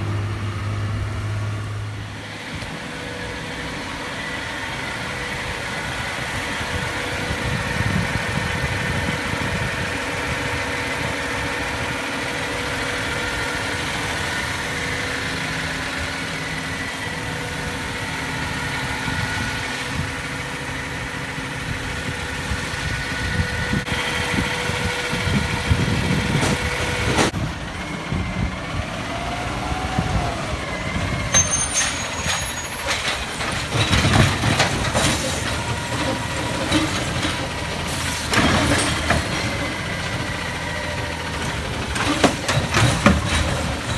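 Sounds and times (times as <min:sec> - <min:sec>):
garbage truck engine whining: 0:00.0 - 0:43.9.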